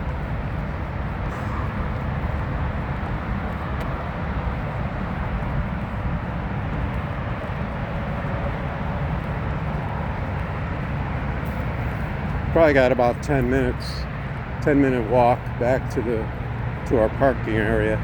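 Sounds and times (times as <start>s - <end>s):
highway traffic: 0.0s - 18.0s.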